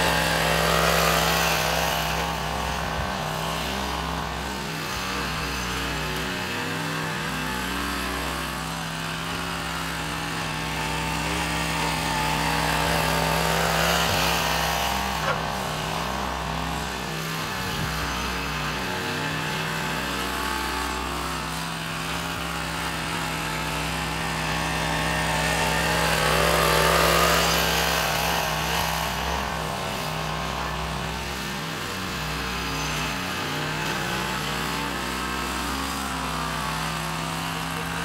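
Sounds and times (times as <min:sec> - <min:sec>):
ride-on roller motor running: 0:00.0 - 0:38.0.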